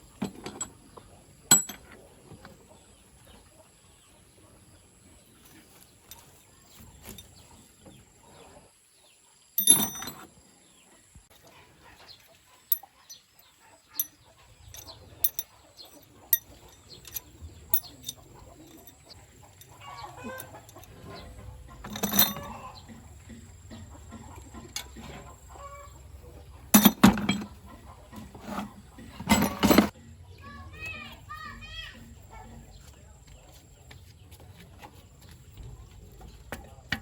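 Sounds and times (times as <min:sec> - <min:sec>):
chickens clucking: 0:00.0 - 0:09.3, 0:10.7 - 0:37.0.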